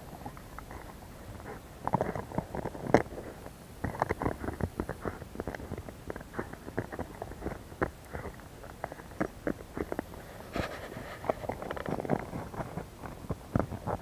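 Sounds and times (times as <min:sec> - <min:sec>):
dog chewing plastic frisbee: 0:00.0 - 0:14.0.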